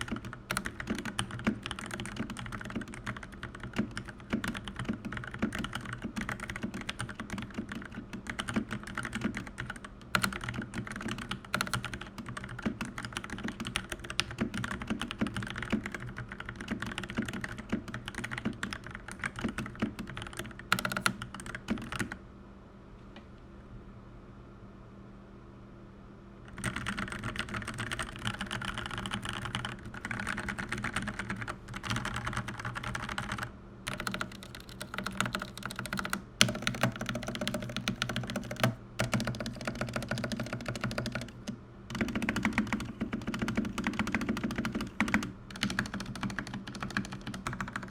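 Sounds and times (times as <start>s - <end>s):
mechanical keyboard typing: 0.0s - 22.2s, 26.5s - 47.9s
low steady hum: 0.0s - 47.9s.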